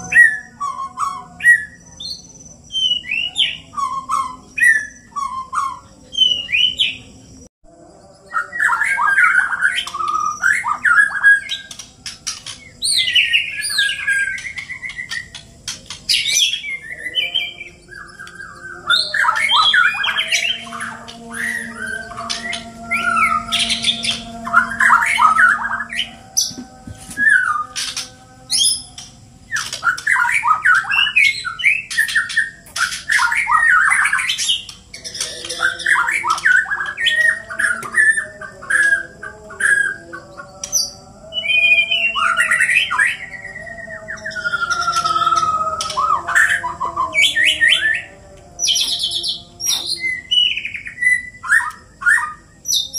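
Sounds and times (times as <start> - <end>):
birds singing whistled phrases: 0.0 - 52.9.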